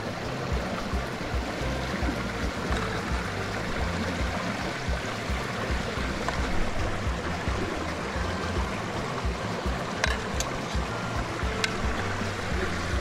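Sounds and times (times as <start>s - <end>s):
river rushing: 0.0s - 13.0s
low thumps: 0.5s - 13.0s.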